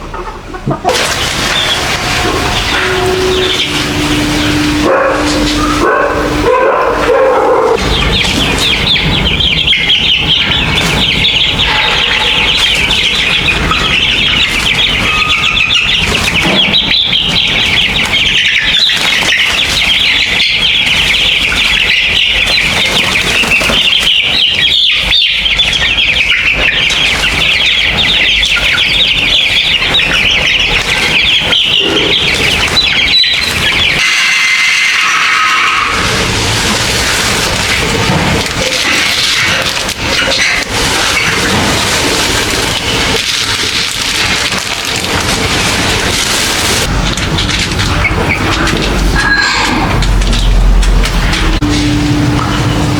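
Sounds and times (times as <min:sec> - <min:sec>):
young chickens peeping: 0:00.0 - 0:52.9.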